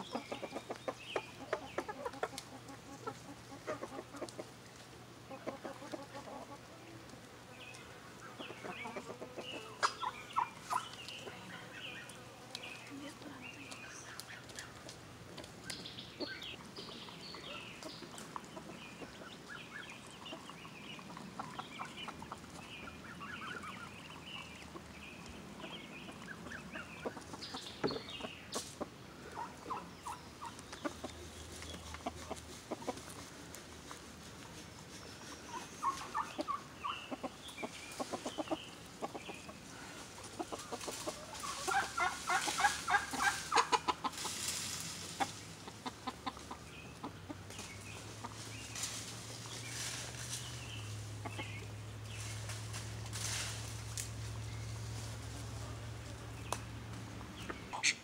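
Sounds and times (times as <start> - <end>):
hens clucking: 0.0 - 58.0.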